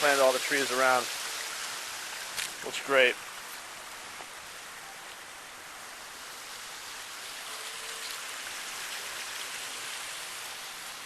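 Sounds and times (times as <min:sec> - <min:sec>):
waterfall splashing over boulders: 0:00.0 - 0:11.0.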